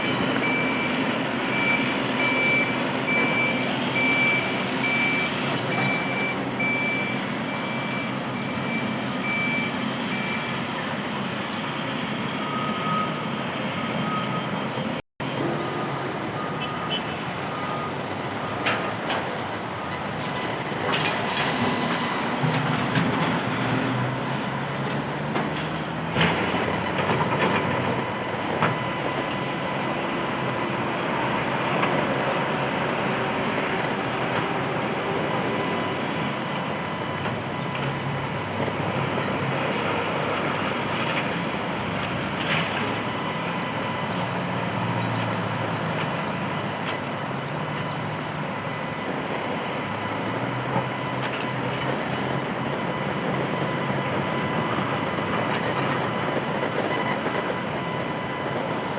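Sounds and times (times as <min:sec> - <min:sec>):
heavy machinery engines running: 0:00.0 - 0:58.9.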